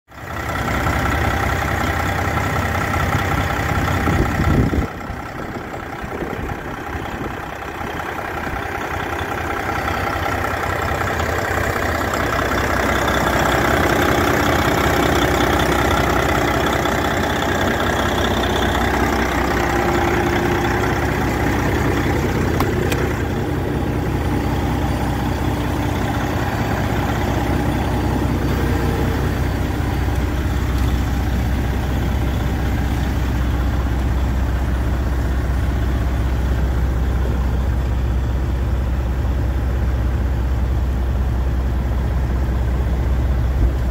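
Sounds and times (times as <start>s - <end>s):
diesel engine idling: 0.1s - 43.9s.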